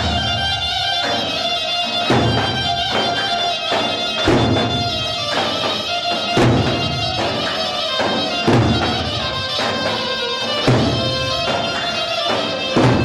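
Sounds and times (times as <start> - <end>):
reed pipe melody: 0.0 - 13.0.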